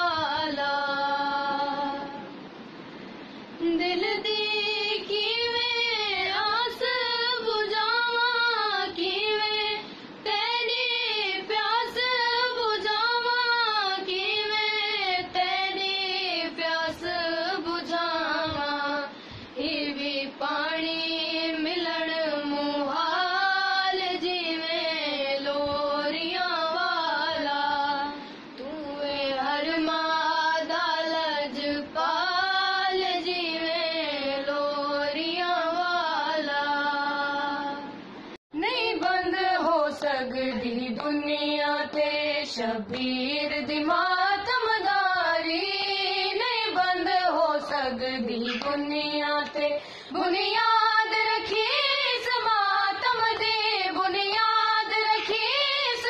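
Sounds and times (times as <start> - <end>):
girl singing a lament: 0.0 - 2.5, 3.6 - 56.0.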